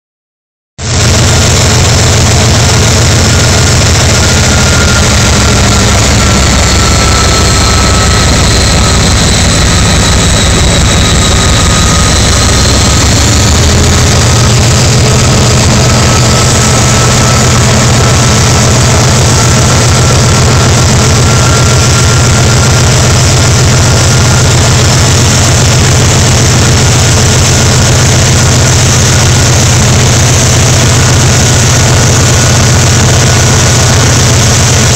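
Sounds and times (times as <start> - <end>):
diesel locomotive engine running: 0.8 - 34.9
high engine whine: 0.8 - 34.9.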